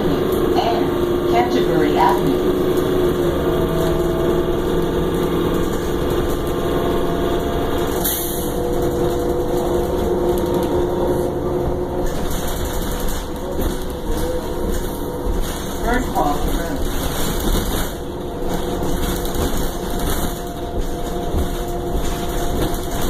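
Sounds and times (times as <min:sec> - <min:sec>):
bus engine humming: 0:00.0 - 0:23.0.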